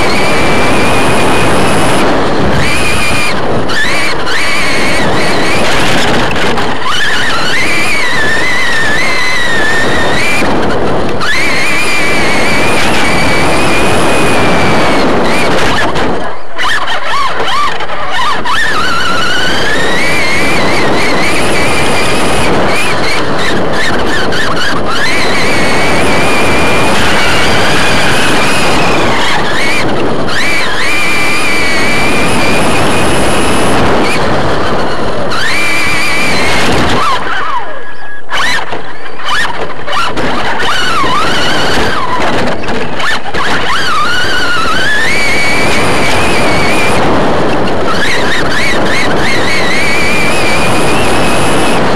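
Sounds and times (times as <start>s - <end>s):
electric motor and gears whining: 0.0s - 51.9s
rough rush of wind and dirt: 0.0s - 51.9s.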